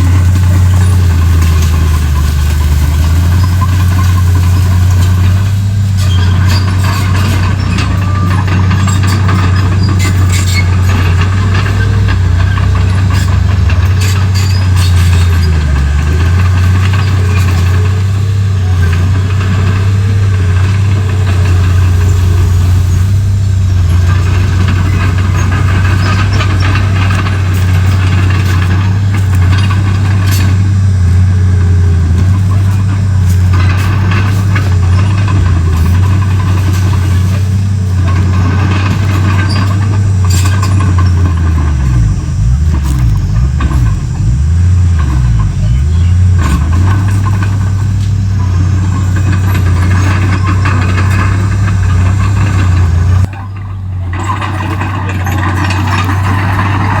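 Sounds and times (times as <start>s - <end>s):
bulldozer diesel engine running: 0.0s - 57.0s
engine knocks: 0.0s - 57.0s.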